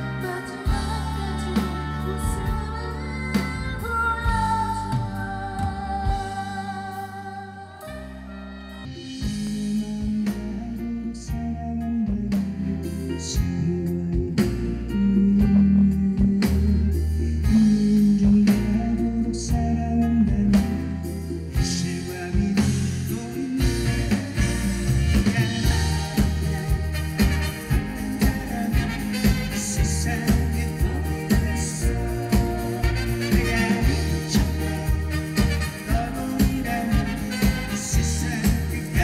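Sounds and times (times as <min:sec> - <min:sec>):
live pop band music: 0:00.0 - 0:39.0.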